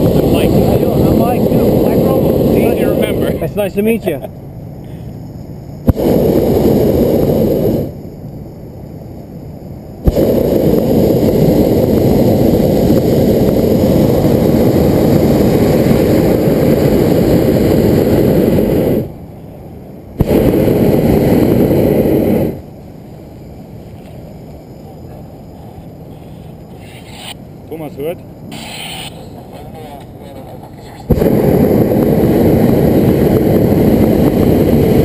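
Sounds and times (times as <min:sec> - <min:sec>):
propane burner firing: 0:00.0 - 0:04.2, 0:05.7 - 0:08.2, 0:10.0 - 0:35.0.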